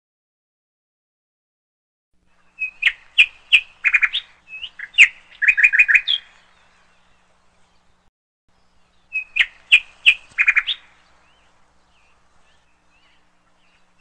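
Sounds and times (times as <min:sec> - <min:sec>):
songbird chirping and trilling: 0:02.2 - 0:14.0.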